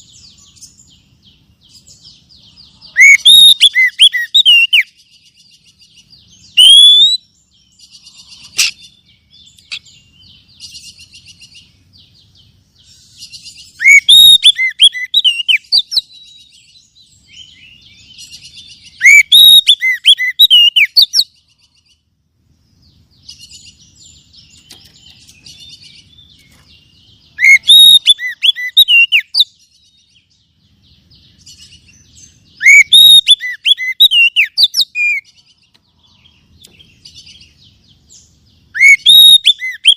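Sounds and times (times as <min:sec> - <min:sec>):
bird whistling song: 0:00.0 - 0:22.0, 0:23.1 - 0:39.9.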